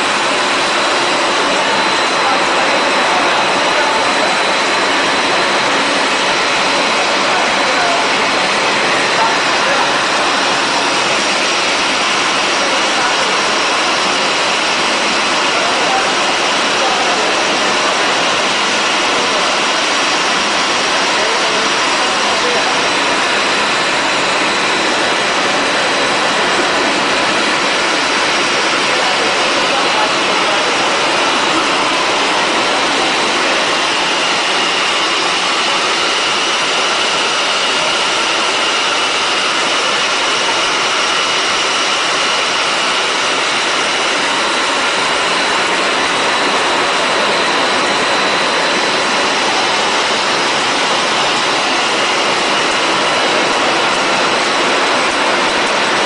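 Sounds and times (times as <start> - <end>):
mechanical rush of machinery: 0.0 - 56.0.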